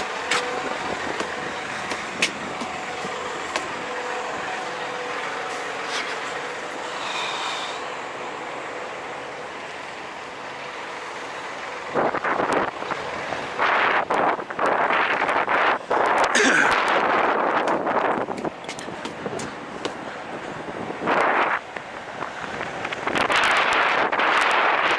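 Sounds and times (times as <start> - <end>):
mechanical hum: 0.0 - 24.9.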